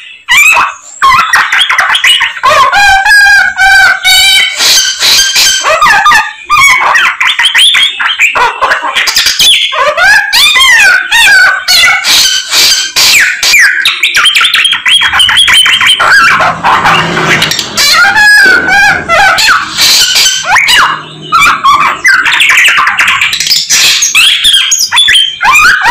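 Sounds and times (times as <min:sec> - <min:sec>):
songbird whistling and trilling: 0:00.0 - 0:08.4, 0:09.0 - 0:25.9.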